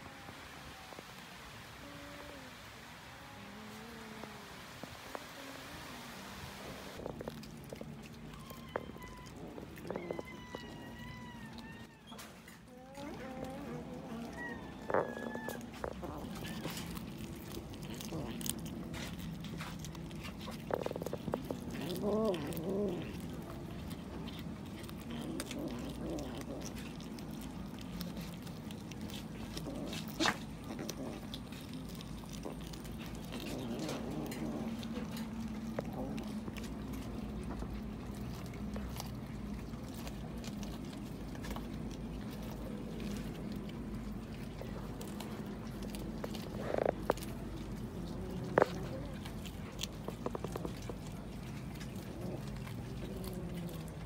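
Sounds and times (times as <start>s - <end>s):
kitten chewing fish: 6.6s - 54.0s.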